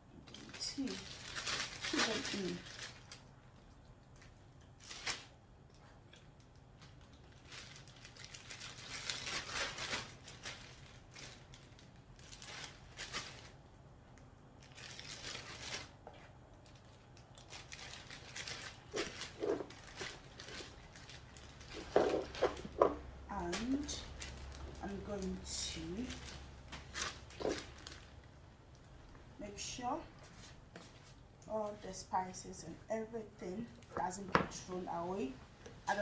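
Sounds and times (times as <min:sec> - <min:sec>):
plastic bag crinkling: 0:00.3 - 0:31.8.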